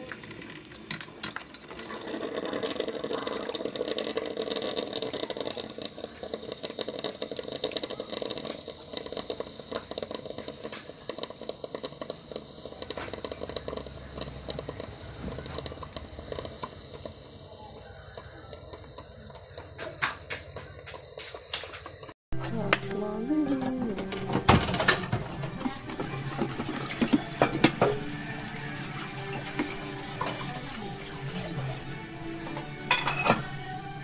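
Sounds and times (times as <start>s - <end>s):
coffee maker sputtering: 0.0s - 34.0s.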